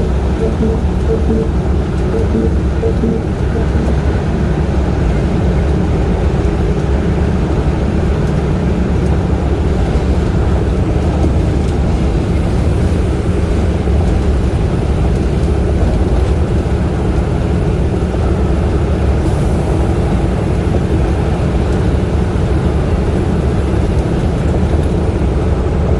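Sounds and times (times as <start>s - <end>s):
engine and tyre rumble: 0.0s - 25.9s.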